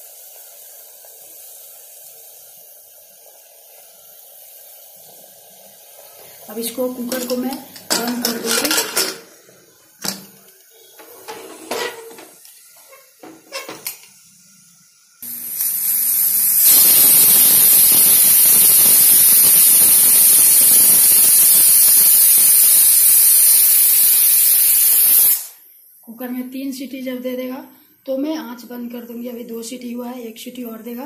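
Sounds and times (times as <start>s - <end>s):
pressure cooker steam hissing: 0.0s - 25.7s.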